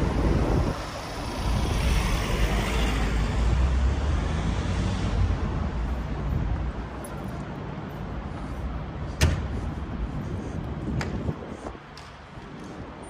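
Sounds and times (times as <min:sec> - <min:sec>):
road traffic rushing by: 0:00.0 - 0:13.0.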